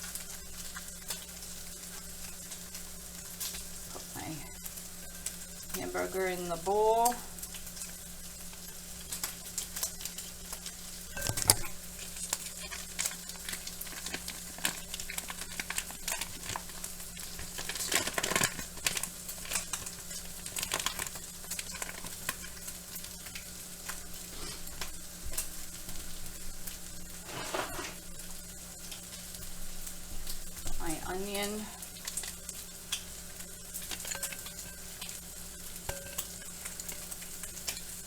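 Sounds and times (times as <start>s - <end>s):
bacon and onions sizzling in pans: 0.0s - 38.0s.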